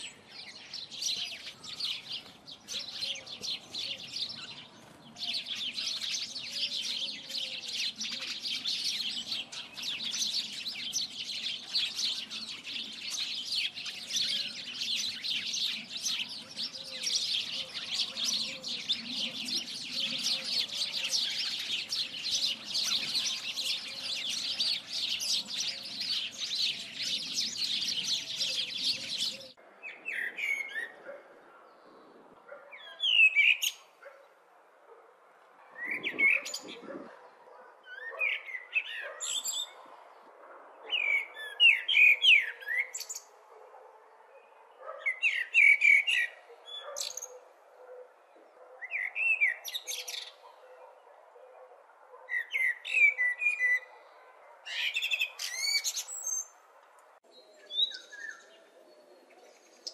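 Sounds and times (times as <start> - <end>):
small birds chirping: 0.0 - 35.0, 35.6 - 51.1, 52.2 - 59.9.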